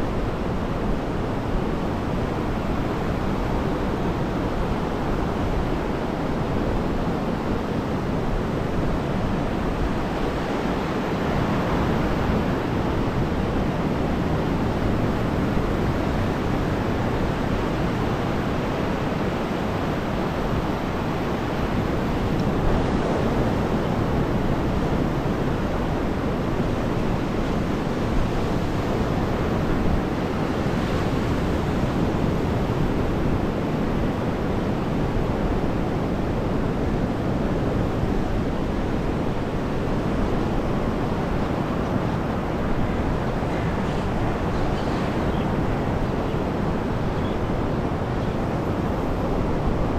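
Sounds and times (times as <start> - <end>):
waves washing onto shore: 0.0 - 49.9.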